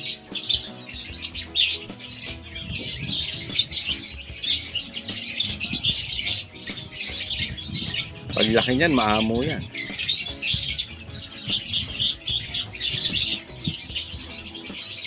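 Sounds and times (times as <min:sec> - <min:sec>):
background music: 0:00.0 - 0:15.0
young birds chirping: 0:00.0 - 0:15.0.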